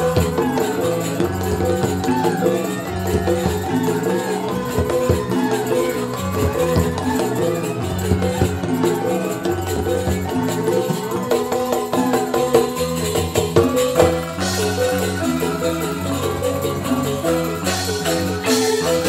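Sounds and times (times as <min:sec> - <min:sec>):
bamboo xylophones playing: 0:00.0 - 0:19.0
percussion: 0:00.0 - 0:19.0.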